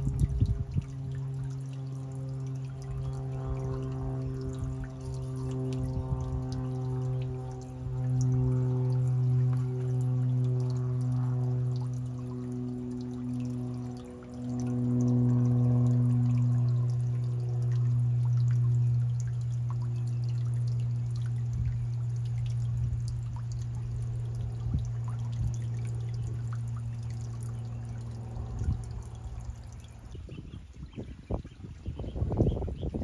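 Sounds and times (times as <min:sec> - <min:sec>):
small splashes: 0:00.0 - 0:30.2
low hum: 0:00.0 - 0:32.4
water trickling and dripping: 0:00.0 - 0:33.0.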